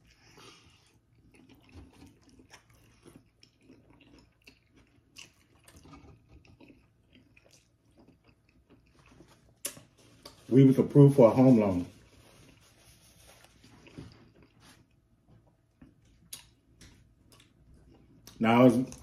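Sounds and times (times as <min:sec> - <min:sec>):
close chewing with crunches: 0:00.0 - 0:10.5, 0:11.6 - 0:19.0.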